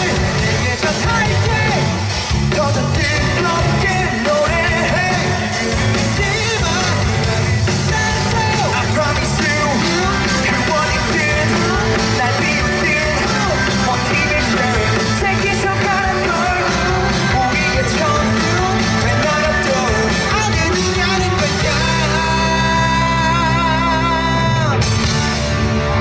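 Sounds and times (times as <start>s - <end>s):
rock song with singer and band: 0.0s - 26.0s.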